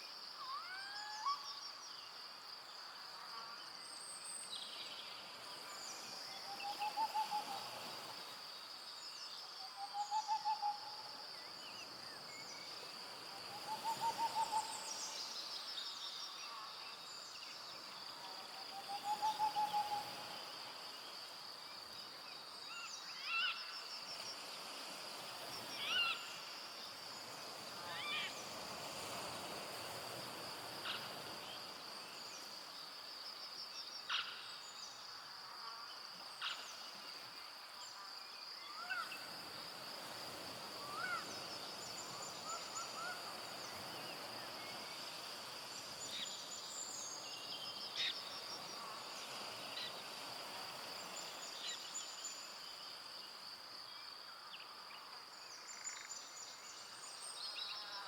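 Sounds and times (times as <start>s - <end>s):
insect trill: 0.0s - 58.0s.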